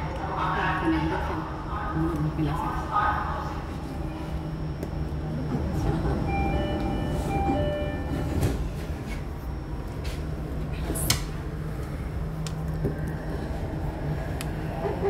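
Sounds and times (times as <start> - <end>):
train low hum: 0.0 - 15.0.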